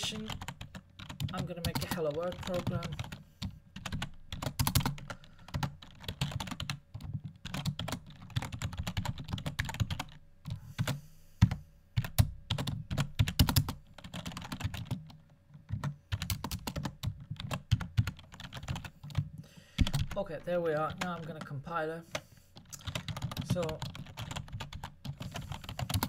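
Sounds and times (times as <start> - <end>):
typing on computer keyboard: 0.0 - 20.2, 22.1 - 26.0.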